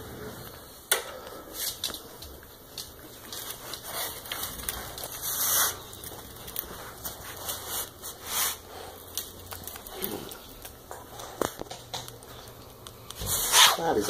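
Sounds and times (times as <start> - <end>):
claws clicking on floor: 1.0 - 13.9
puppies scuffling and snuffling: 1.3 - 14.0.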